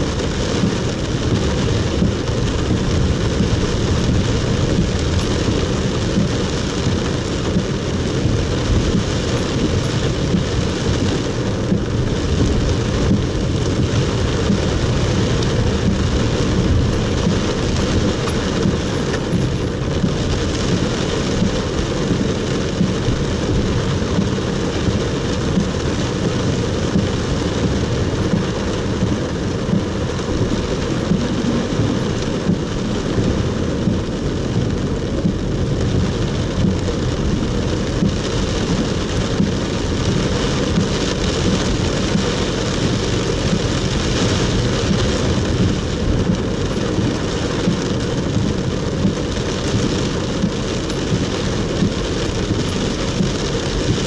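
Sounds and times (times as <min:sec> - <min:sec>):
heavy rain on car roof: 0:00.0 - 0:54.0
road noise on wet street: 0:00.0 - 0:54.0.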